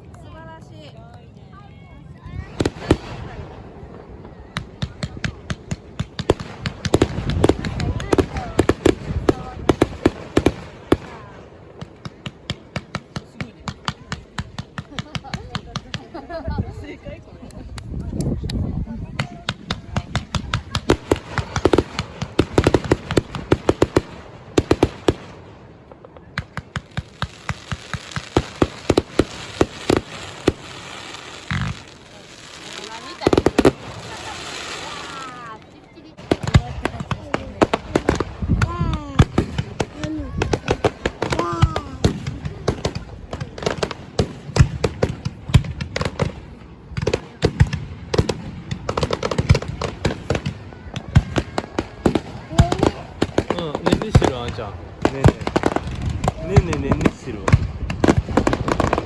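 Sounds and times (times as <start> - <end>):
fireworks banging and popping: 2.2 - 59.0.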